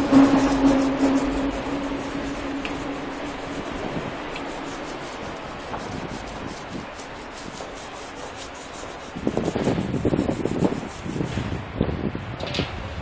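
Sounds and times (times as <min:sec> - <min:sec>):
brush scrubbing concrete wall: 0:00.0 - 0:11.6.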